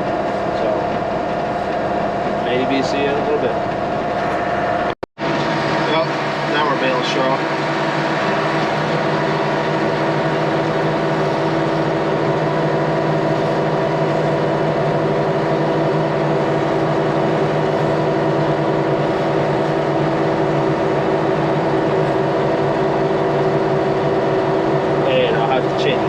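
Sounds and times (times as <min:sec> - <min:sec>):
tractor engine droning: 0:00.0 - 0:26.0.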